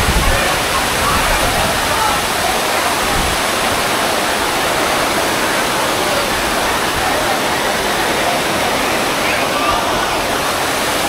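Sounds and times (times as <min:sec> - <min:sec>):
waterfall splashing onto rocks: 0:00.0 - 0:11.0.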